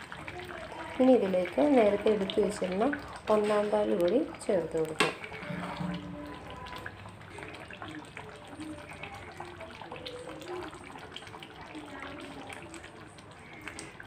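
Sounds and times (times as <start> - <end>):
curry bubbling in a pan: 0.0 - 14.0.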